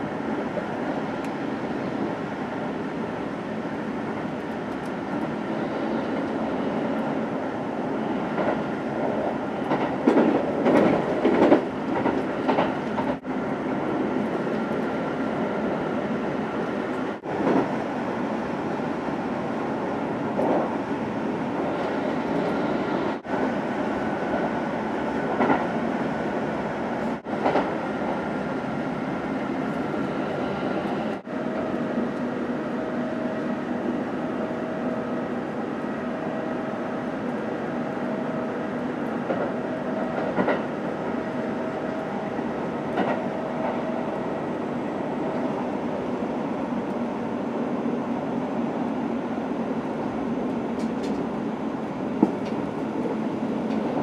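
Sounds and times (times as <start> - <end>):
train rumble and hum: 0.0 - 54.0.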